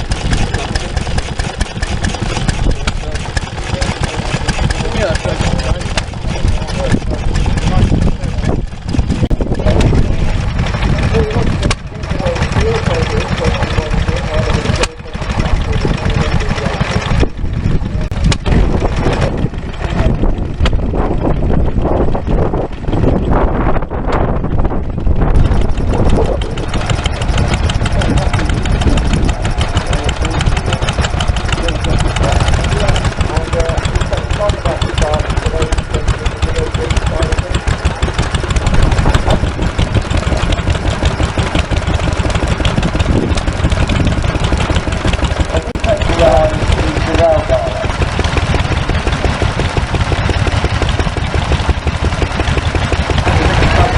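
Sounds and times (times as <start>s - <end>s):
stationary engine running: 0.0s - 53.9s.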